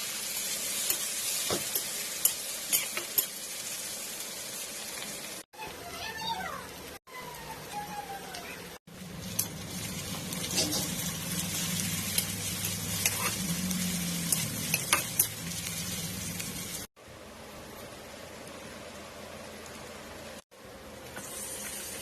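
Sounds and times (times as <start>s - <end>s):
chicken sizzling in oil: 0.0s - 16.9s, 21.0s - 22.0s.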